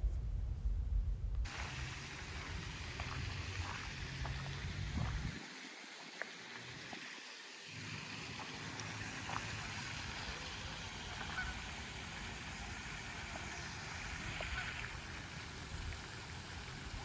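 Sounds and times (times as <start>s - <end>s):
wind rumbling on microphone: 0.0s - 7.1s, 7.8s - 17.0s
outdoor hiss: 1.3s - 17.0s.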